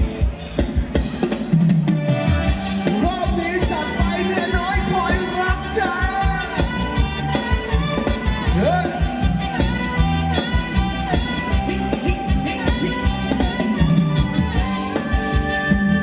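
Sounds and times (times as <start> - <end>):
live band dance music: 0.0 - 16.0.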